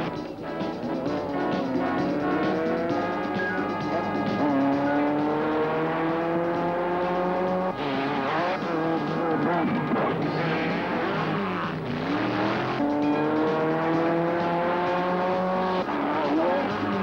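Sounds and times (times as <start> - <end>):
dune buggy engine revving: 0.0 - 17.0.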